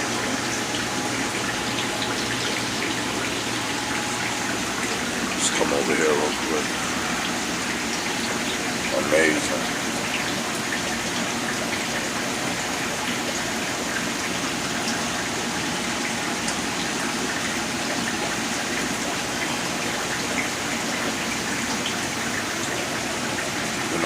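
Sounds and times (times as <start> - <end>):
aquarium filter water splashing: 0.0 - 24.0.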